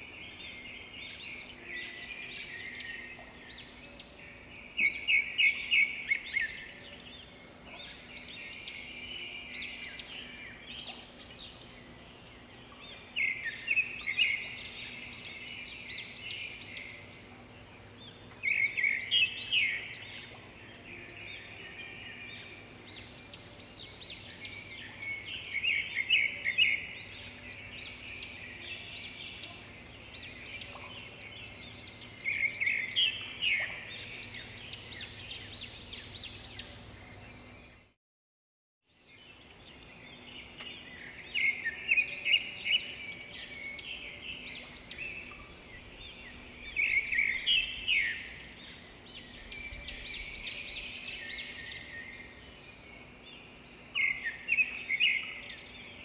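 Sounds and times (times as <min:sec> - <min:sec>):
small birds chirping: 0:00.0 - 0:37.9, 0:38.9 - 0:56.0.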